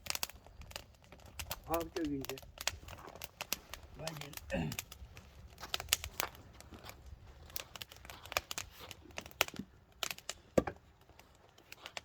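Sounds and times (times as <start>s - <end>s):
log fire crackling: 0.0s - 12.0s.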